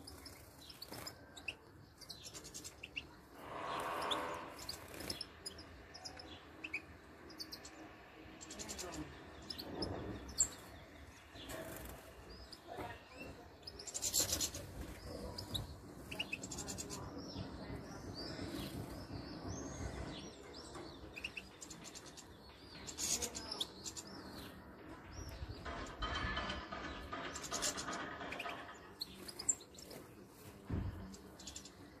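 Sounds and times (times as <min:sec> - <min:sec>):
finches chirping and twittering: 0:00.0 - 0:32.0.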